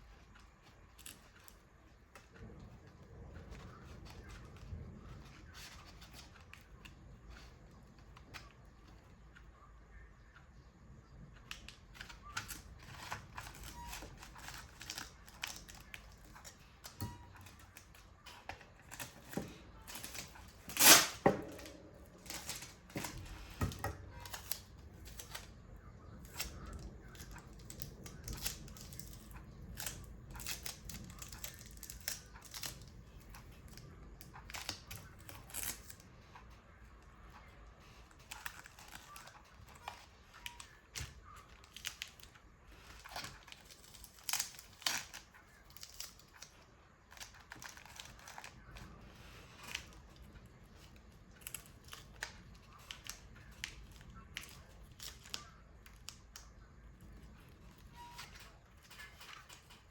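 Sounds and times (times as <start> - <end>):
paper rustling: 0.0 - 10.7, 11.3 - 59.9.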